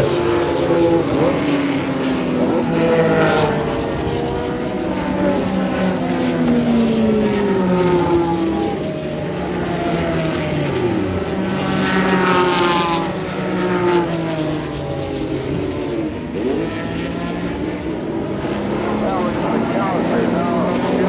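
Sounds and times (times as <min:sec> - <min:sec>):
racing cars passing at speed: 0:00.0 - 0:21.0.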